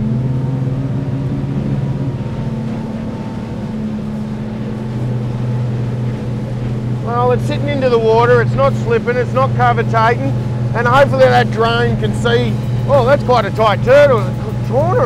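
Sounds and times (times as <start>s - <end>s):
outboard motor drone: 0.0s - 15.0s
rushing water: 0.0s - 15.0s.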